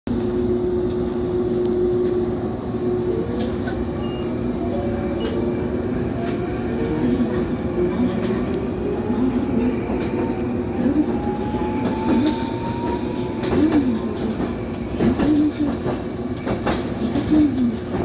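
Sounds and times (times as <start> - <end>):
tram wheels rumbling on rail: 0.1 - 18.0.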